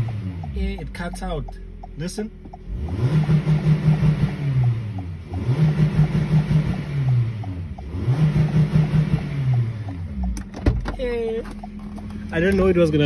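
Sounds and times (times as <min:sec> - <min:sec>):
car engine revving: 0:00.0 - 0:13.0
rev limiter stutter: 0:00.0 - 0:13.0.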